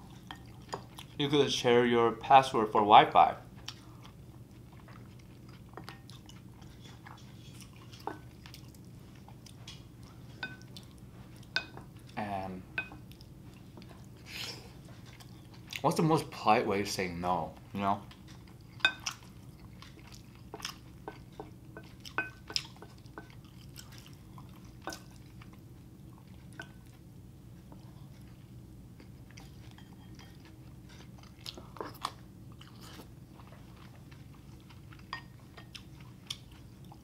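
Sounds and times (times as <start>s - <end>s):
chewing with mouth clicks: 0.0s - 1.2s, 3.4s - 12.2s, 12.8s - 16.0s, 17.6s - 37.0s.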